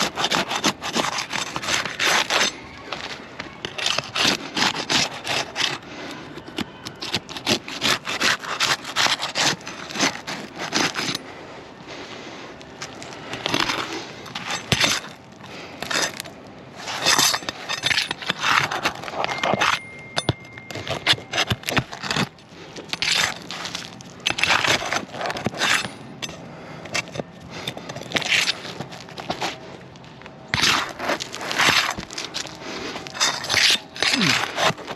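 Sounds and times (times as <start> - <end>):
shingles crackling and clicking: 0.0 - 11.2, 12.6 - 34.9
pry bar scraping shingles: 0.0 - 11.3, 12.7 - 34.9.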